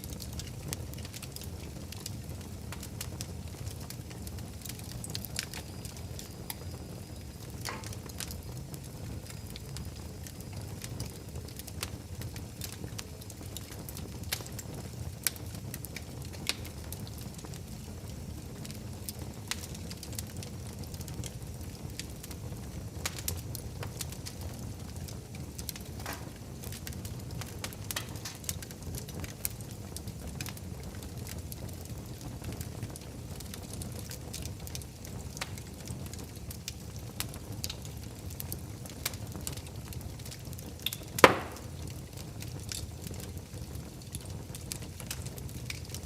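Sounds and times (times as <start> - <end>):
fire crackling and popping: 0.0 - 46.0.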